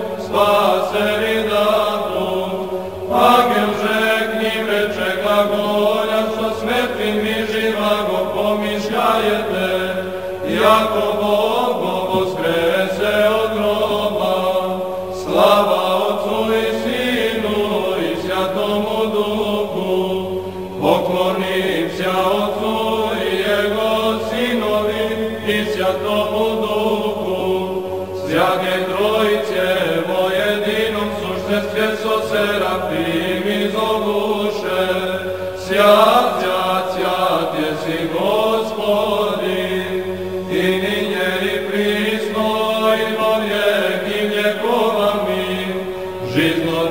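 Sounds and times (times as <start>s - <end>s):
voices chanting: 0.0s - 46.9s.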